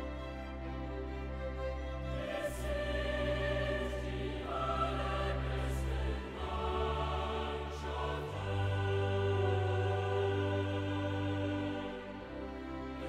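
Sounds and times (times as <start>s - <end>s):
slow choral and orchestral music: 0.0s - 13.0s.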